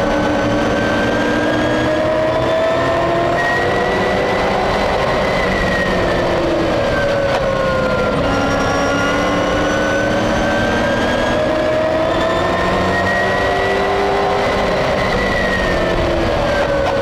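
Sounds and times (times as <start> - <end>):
truck engine racing: 0.0 - 17.0.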